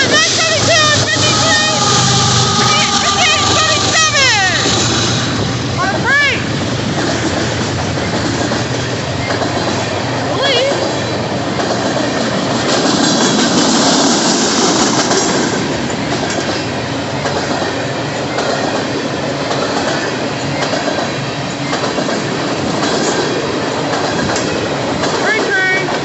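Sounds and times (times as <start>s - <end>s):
freight train rumbling past: 0.0s - 26.0s
high hiss from train wheels: 0.0s - 26.0s
wheels clacking over rail joints: 0.0s - 26.0s.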